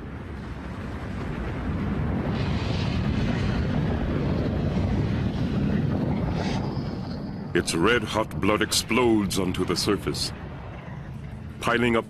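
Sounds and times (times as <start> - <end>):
deep rumble of lava: 0.0 - 12.0.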